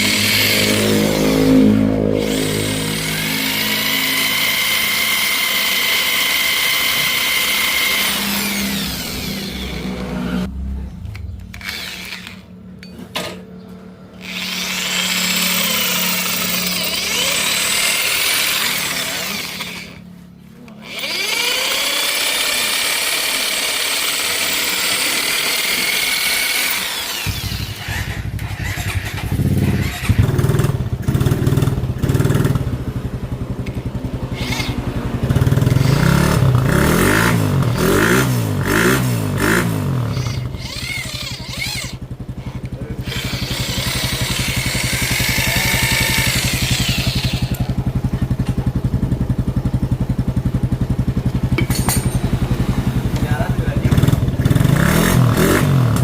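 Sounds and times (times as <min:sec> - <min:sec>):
power tool running: 0:00.0 - 0:10.5, 0:11.1 - 0:13.4, 0:14.0 - 0:32.8, 0:33.6 - 0:48.8
motorcycle engine revving: 0:00.0 - 0:56.0.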